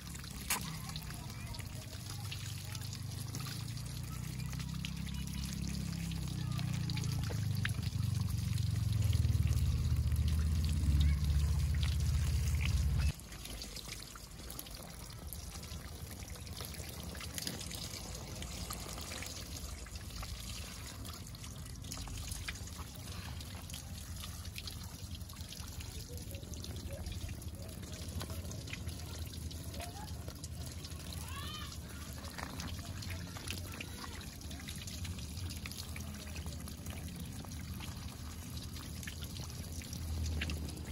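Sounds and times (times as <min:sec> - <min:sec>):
water trickling onto plastic tarp: 0:00.0 - 0:40.9.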